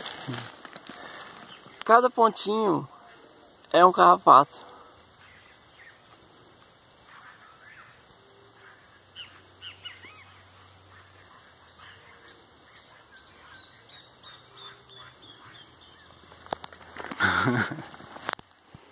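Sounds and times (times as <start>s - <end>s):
faint birdsong: 0.0s - 18.9s.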